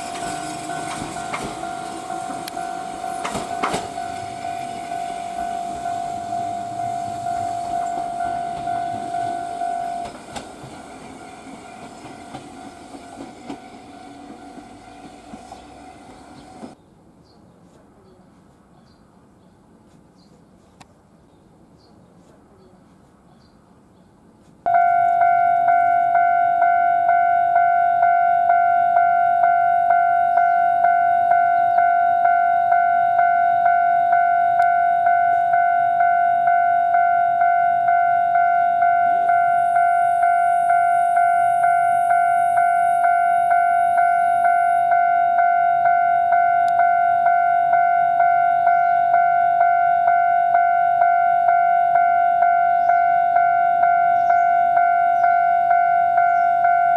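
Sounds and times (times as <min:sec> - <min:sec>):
level crossing warning bell: 0:00.0 - 0:16.8, 0:24.7 - 0:56.9.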